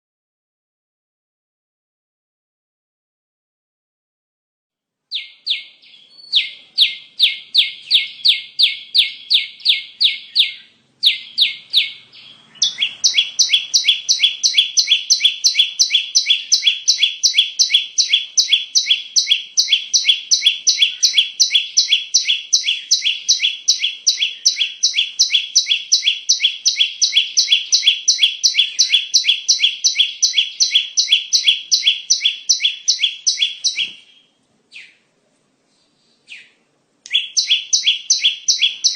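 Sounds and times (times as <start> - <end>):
higher bird chirps: 5.1 - 35.0, 36.3 - 38.9
bird chirps: 5.1 - 35.1, 36.0 - 38.9.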